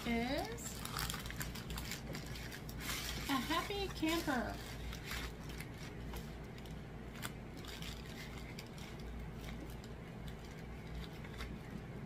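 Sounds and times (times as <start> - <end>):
plastic film rustling and crinkling: 0.0 - 12.0
steady low hum: 0.0 - 12.0.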